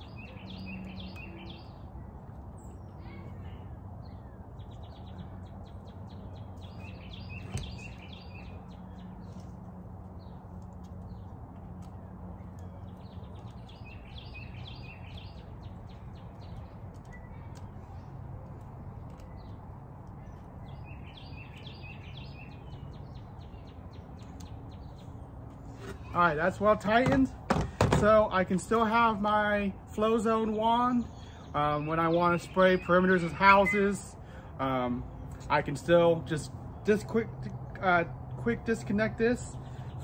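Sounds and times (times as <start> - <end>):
songbird high chirps: 0.0 - 26.6, 28.6 - 35.5.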